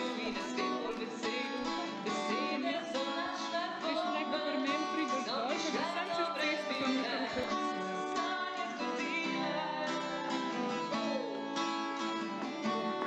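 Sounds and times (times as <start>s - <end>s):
plucked acoustic guitar music: 0.0s - 13.0s.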